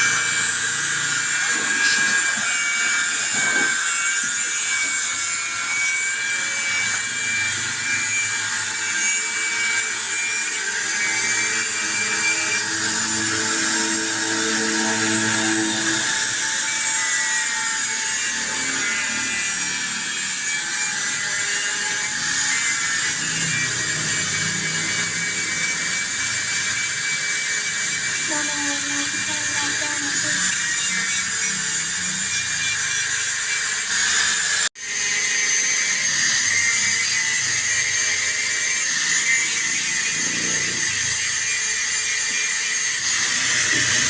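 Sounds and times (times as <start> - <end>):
power tool whining on metal: 0.0 - 44.0.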